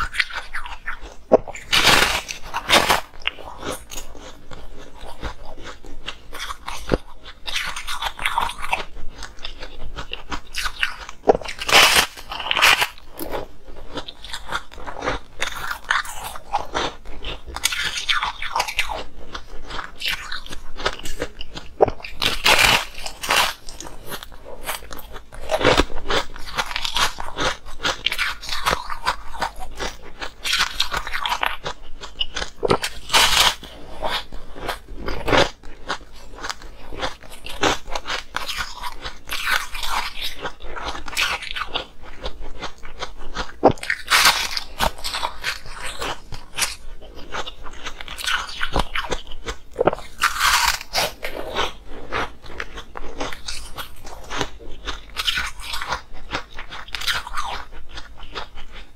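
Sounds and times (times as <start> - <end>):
person crunching ice: 0.0 - 58.8.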